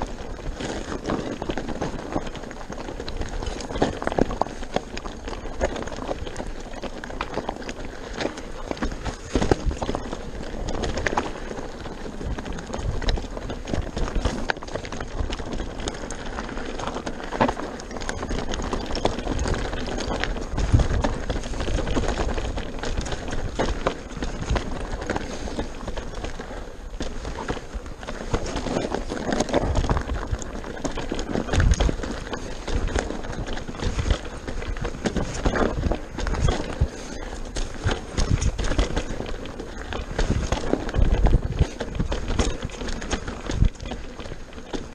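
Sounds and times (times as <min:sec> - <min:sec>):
bike knocking and clattering: 0:00.0 - 0:44.9
tyres crunching over stones: 0:00.0 - 0:44.9
wind rumble on microphone: 0:00.0 - 0:44.9.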